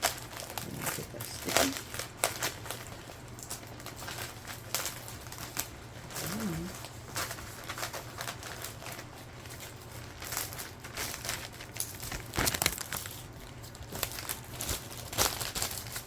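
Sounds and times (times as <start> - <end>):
plastic film crinkling: 0.0 - 16.0.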